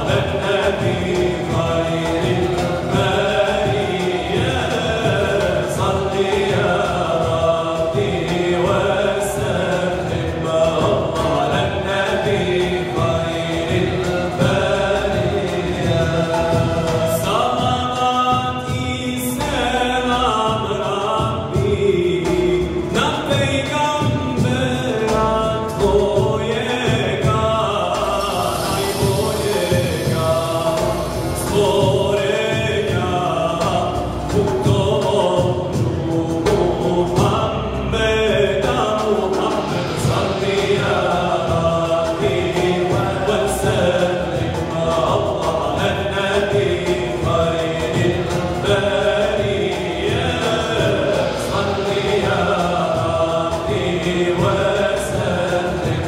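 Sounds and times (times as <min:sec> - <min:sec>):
cajon beat: 0:00.0 - 0:56.0
men singing devotional song: 0:00.0 - 0:56.0
saz flute and keyboard: 0:00.0 - 0:56.0.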